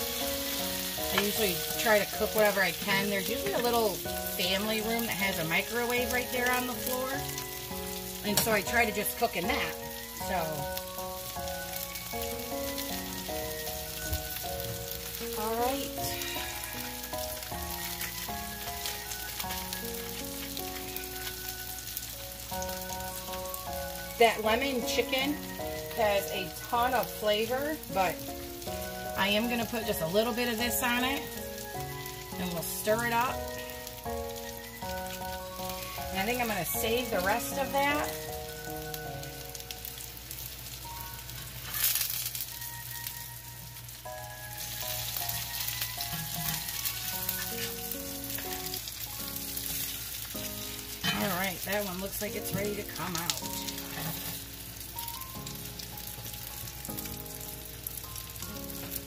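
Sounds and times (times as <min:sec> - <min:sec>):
food sizzling in oil: 0:00.0 - 0:59.0
soft background music: 0:00.0 - 0:59.0.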